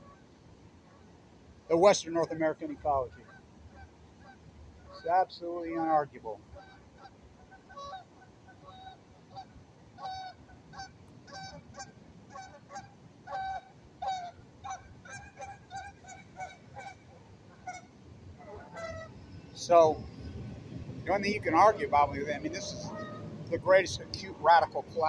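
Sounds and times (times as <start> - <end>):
geese honking: 1.7 - 20.0, 21.1 - 25.0.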